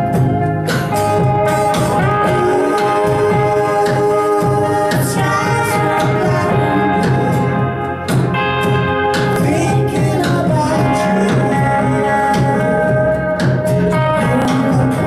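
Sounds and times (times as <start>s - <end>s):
steady low beat: 0.0s - 15.0s
strummed guitars: 0.0s - 15.0s.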